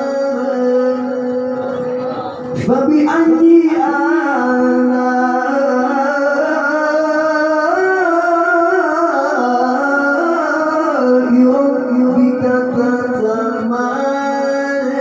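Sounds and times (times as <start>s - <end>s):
man reciting melodically through microphone: 0.0s - 15.0s.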